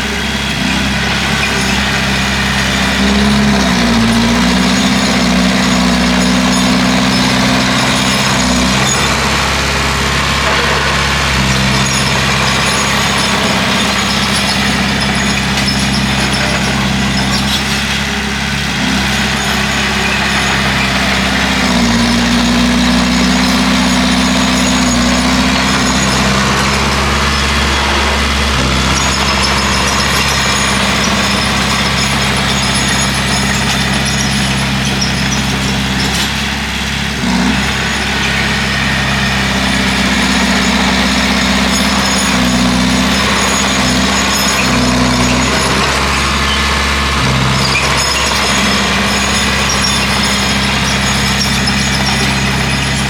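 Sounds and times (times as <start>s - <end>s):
bulldozer engine under load: 0.0s - 53.0s.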